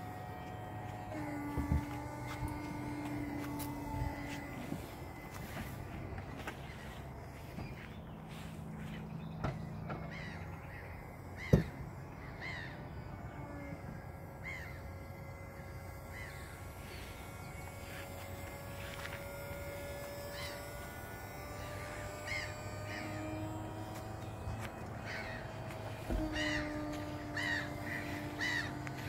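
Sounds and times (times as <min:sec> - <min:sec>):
hydraulic pump whining: 0:00.0 - 0:29.0.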